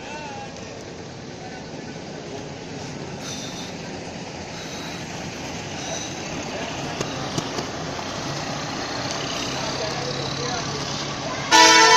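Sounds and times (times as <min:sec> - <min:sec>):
bus engine rumble: 0:00.0 - 0:11.9.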